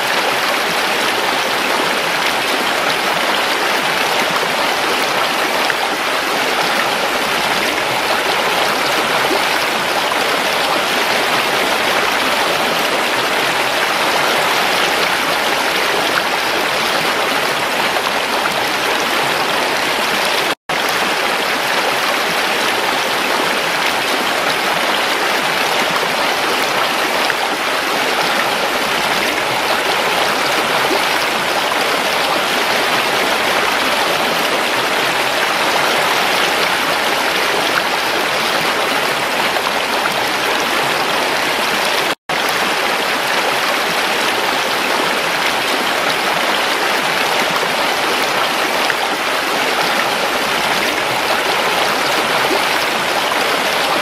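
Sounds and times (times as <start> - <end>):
creek rushing over rocks: 0.0 - 54.0.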